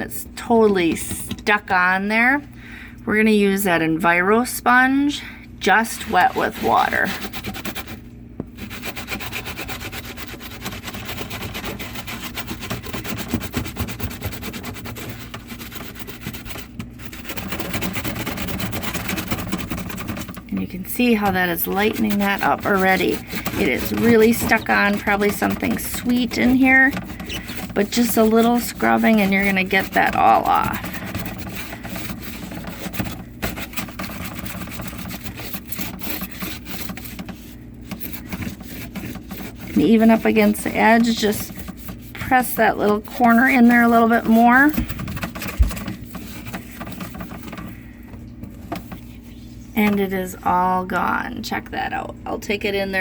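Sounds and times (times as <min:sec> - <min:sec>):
sponge scrubbing: 0:04.6 - 0:51.0.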